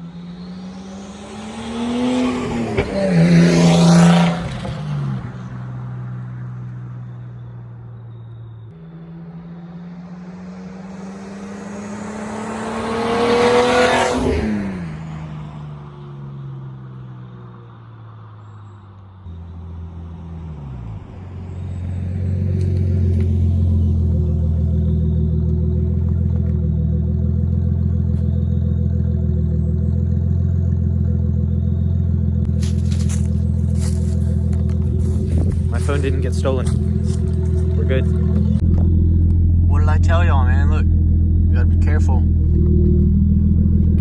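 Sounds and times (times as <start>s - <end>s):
car exhaust driving past: 0.2s - 18.6s, 19.3s - 44.0s.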